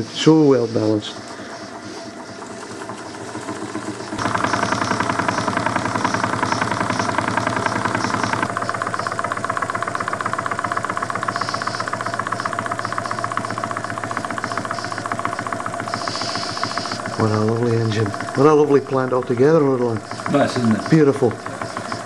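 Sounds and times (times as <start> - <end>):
gas burner rushing: 0.0 - 22.0
steam engine exhaust beats: 0.0 - 22.0.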